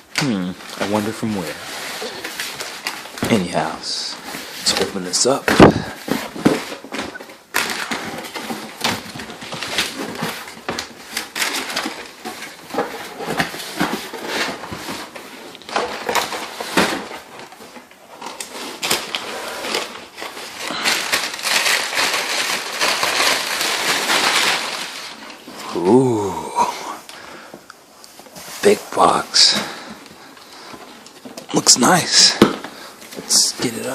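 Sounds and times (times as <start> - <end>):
cardboard and tape tearing: 0.0 - 27.1, 31.1 - 33.9.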